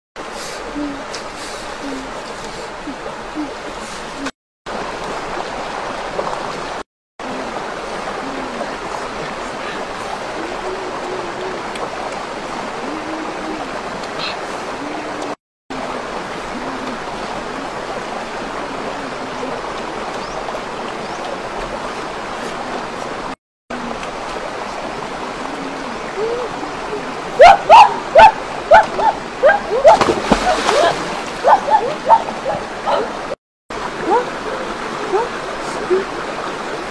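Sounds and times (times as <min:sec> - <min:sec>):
stream rushing over rocks: 0:00.2 - 0:36.9.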